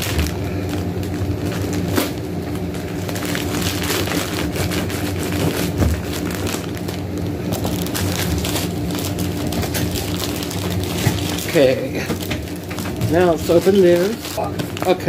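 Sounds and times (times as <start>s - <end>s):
plastic mailer bag crinkling: 0.0s - 15.0s
steady low hum: 0.0s - 15.0s.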